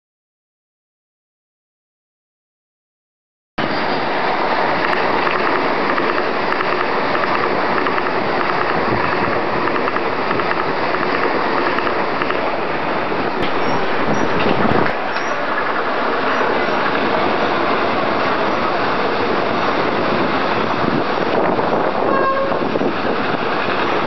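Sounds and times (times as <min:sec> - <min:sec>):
electric trains passing: 0:03.6 - 0:24.0.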